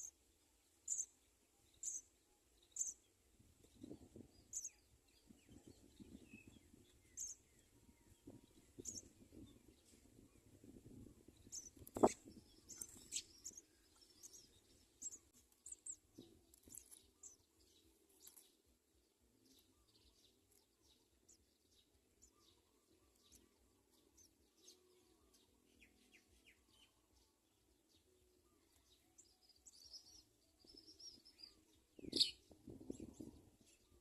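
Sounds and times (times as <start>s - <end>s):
sparrows chirping: 0.0s - 34.0s.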